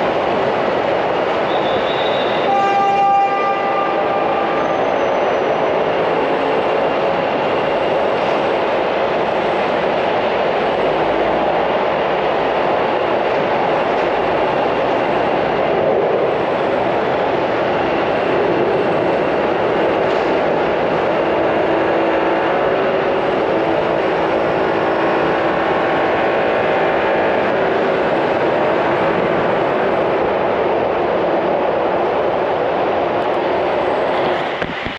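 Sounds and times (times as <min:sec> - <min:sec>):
traffic noise: 0:00.0 - 0:34.9
buses and cars idling: 0:03.6 - 0:34.9.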